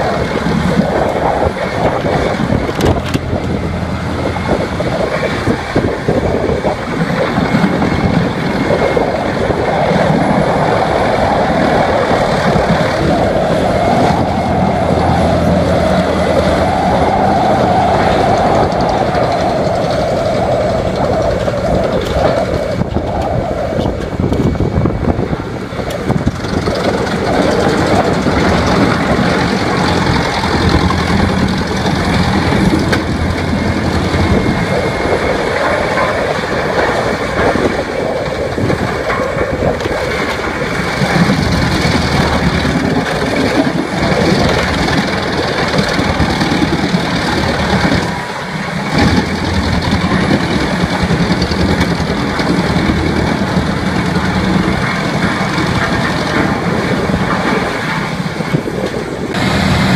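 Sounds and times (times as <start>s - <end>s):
dense rattling: 0.0s - 59.9s
heavy machine engine running: 0.0s - 59.9s.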